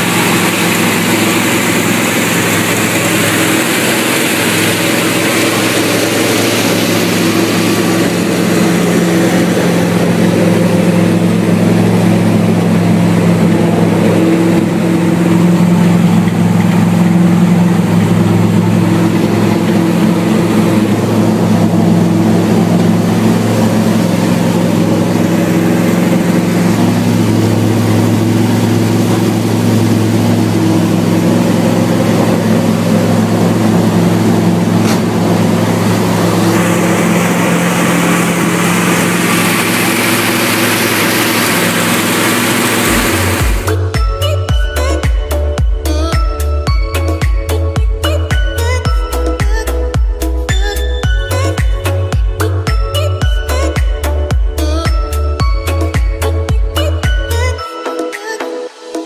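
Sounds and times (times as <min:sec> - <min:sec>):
car engine idling: 0:00.0 - 0:57.6.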